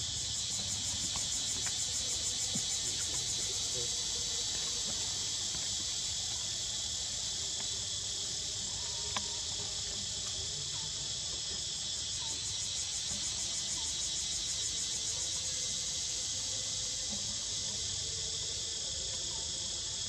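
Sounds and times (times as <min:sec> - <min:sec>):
shrill insect chorus: 0:00.0 - 0:20.0.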